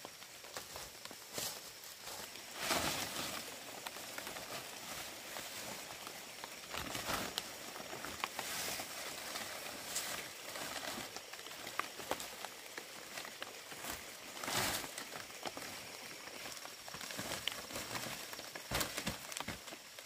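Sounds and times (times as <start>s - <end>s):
dried palm leaves rustling: 0.0s - 20.0s.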